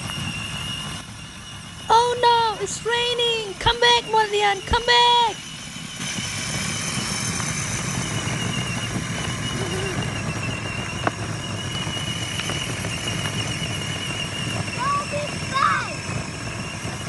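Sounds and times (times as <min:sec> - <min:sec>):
toy motorcycle motor whining: 0:00.0 - 0:17.0.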